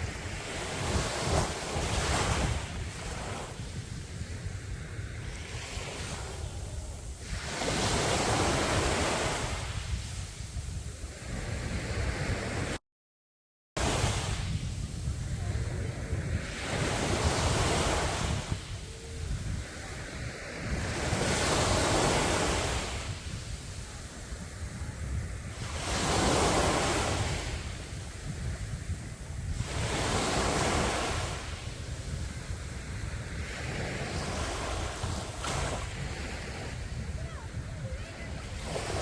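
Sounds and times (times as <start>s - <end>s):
low wind rumble on microphone: 0.0s - 12.8s, 13.8s - 39.0s
sea waves breaking on sand: 0.0s - 12.8s, 13.8s - 39.0s.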